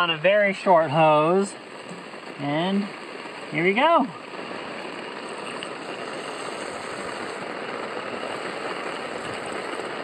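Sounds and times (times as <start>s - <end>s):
rain on boat deck: 0.0s - 10.0s
water running through hose: 0.0s - 10.0s.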